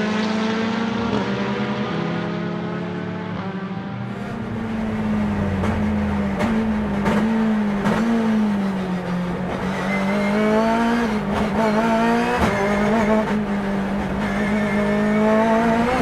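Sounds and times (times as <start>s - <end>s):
race car engine under load: 3.2s - 16.0s.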